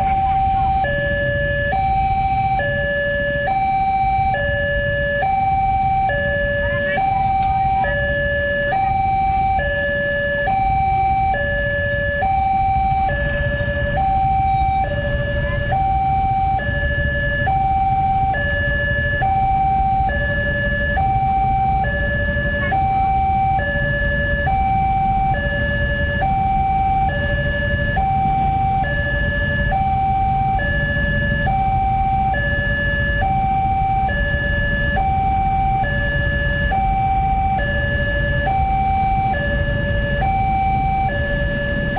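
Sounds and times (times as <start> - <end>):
two-tone crossing alarm: 0.0 - 41.9.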